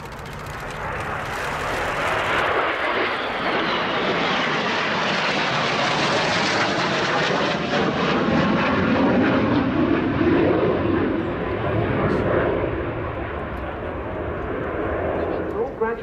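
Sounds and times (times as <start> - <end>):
jet engine in flight: 0.0 - 16.0.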